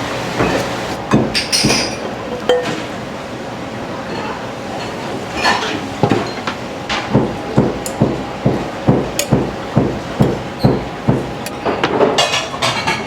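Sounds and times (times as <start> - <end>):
kitchen clatter: 0.4 - 3.0, 4.1 - 13.0.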